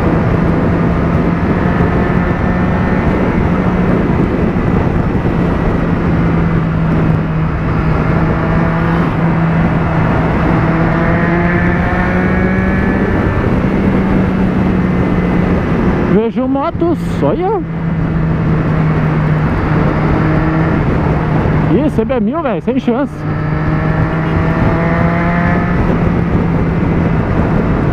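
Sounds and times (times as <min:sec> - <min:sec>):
motorcycle engine cruising: 0:00.0 - 0:27.9
wind noise on microphone: 0:00.0 - 0:27.9.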